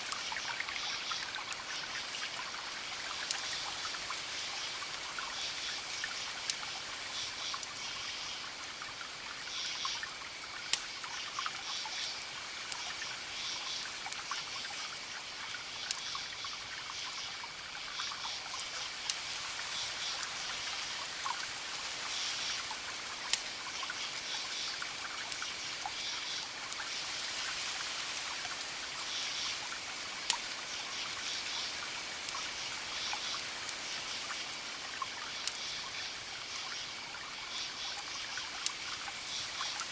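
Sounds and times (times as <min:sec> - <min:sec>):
cricket chirps: 0:00.0 - 0:39.9
steady hiss: 0:00.0 - 0:39.9
campfire crackling and popping: 0:00.1 - 0:17.0, 0:17.6 - 0:39.9.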